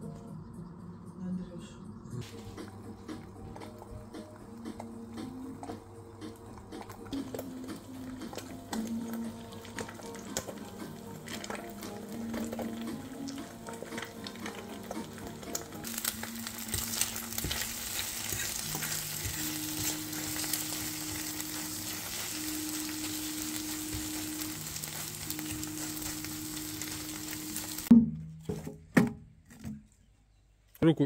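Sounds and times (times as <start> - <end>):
food sizzling and crackling: 2.2 - 27.9.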